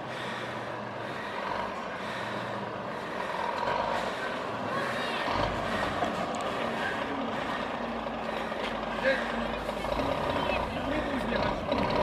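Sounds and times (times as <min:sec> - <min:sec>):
truck engine noise: 0:00.0 - 0:12.0.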